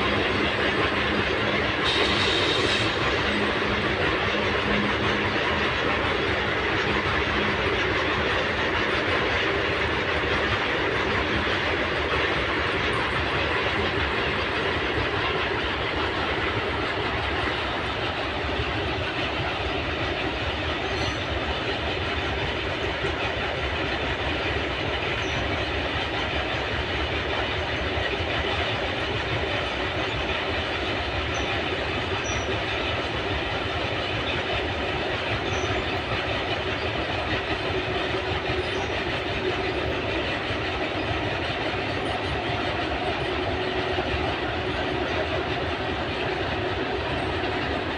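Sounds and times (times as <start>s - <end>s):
train wheels rolling on rails: 0.0s - 47.9s.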